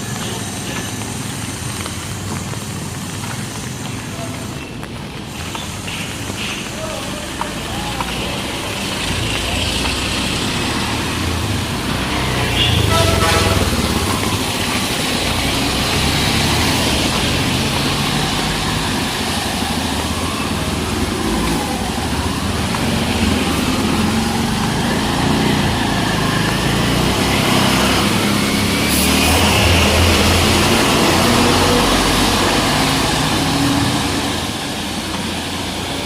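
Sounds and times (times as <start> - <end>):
motor vehicle engines humming: 0.0 - 36.0.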